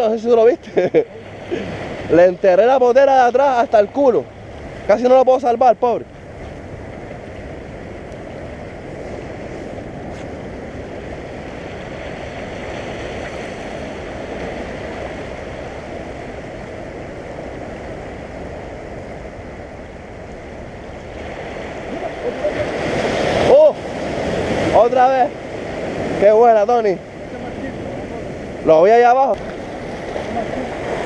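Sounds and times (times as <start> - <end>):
surf washing around rocks: 0.0 - 31.0.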